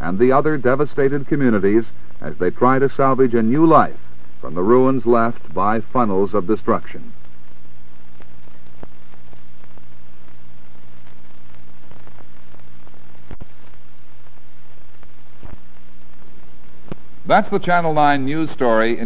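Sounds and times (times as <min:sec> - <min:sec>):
crackles and pop: 0:00.0 - 0:19.0
film soundtrack hiss and hum: 0:00.0 - 0:19.0.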